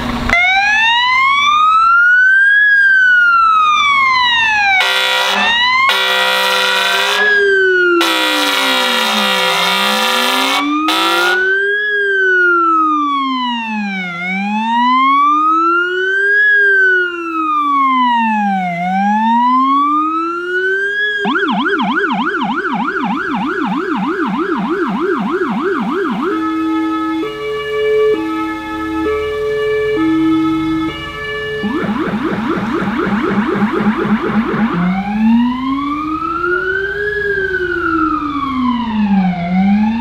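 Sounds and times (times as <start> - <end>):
fire engine siren: 0.0 - 40.0
siren horn blast: 0.1 - 1.8, 3.2 - 40.0.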